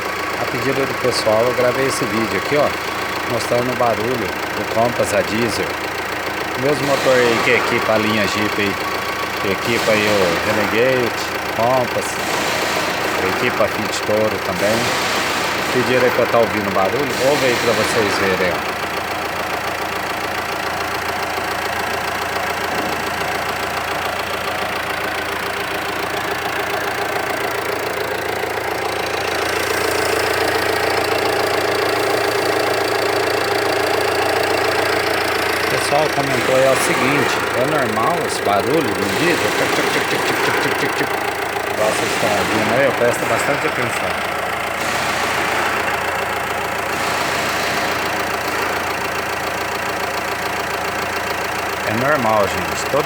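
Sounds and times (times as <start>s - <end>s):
diesel engine idling with clatter: 0.0s - 53.0s.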